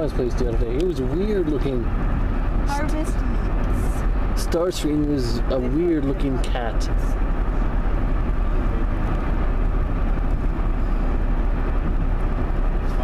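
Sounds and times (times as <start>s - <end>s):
car road and tyre rumble: 0.0s - 13.0s.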